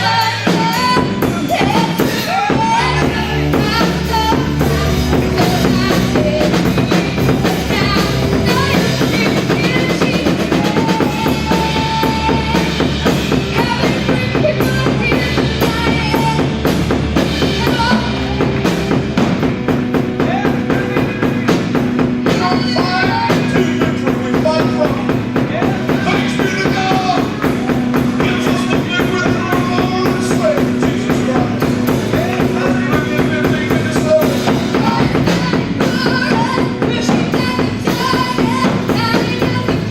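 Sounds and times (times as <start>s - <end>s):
bass guitar: 0.0s - 39.9s
drum kit playing fast: 0.0s - 39.9s
keyboard: 0.0s - 39.9s.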